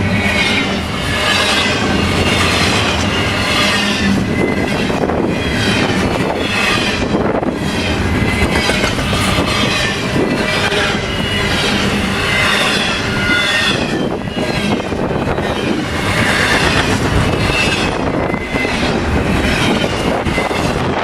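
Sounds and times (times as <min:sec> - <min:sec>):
freight train wheels clattering: 0:00.0 - 0:21.0.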